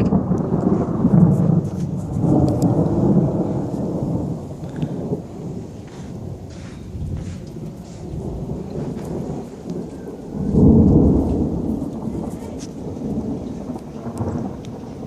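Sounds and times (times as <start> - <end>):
rain falling: 0.0 - 15.0
thunder rumbling: 0.0 - 15.0.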